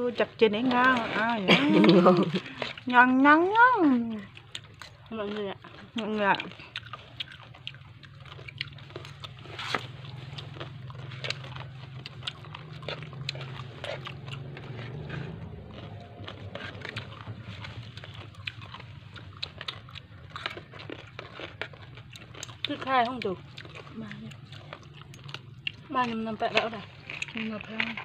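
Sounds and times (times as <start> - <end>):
low steady hum: 0.0 - 28.0
wet salad squelching: 0.1 - 28.0.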